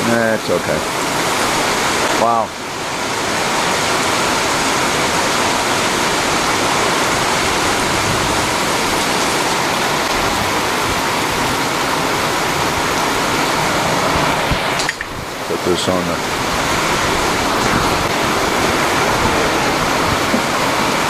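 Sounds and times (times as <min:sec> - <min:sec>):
torrential rain: 0:00.0 - 0:21.0.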